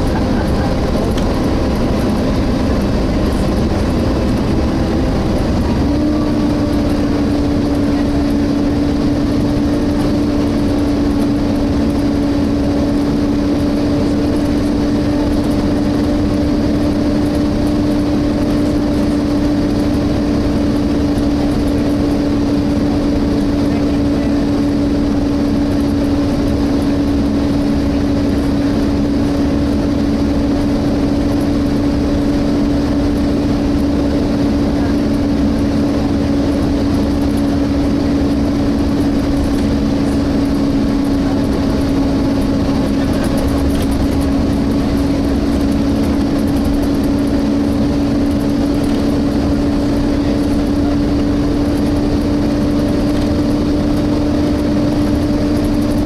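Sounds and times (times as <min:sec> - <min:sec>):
bus engine and road rumble: 0:00.0 - 0:56.0
engine cooling fan whine: 0:00.0 - 0:56.0.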